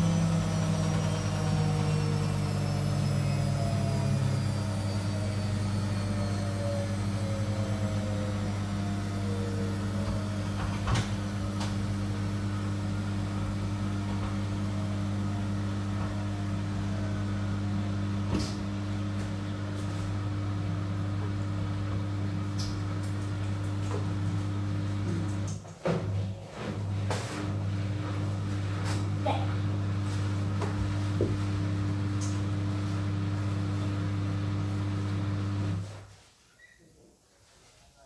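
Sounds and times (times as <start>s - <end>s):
washing machine motor whine: 0.0s - 36.1s.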